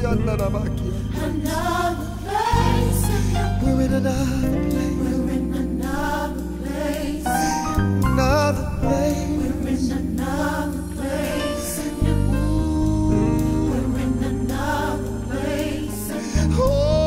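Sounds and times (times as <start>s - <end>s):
sustained bass notes: 0.0s - 17.0s
choir singing: 0.8s - 17.0s.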